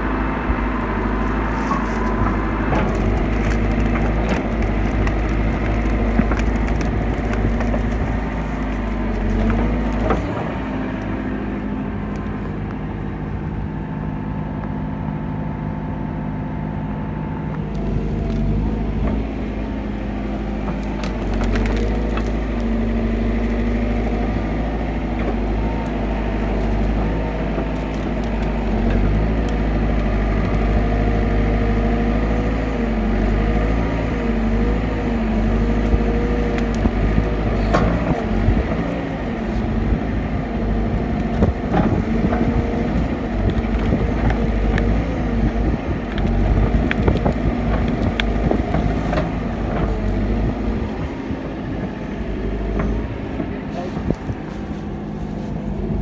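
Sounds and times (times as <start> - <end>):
diesel engine running under load: 0.0 - 56.0
sticks and mud cracking: 0.9 - 13.1, 17.5 - 51.3.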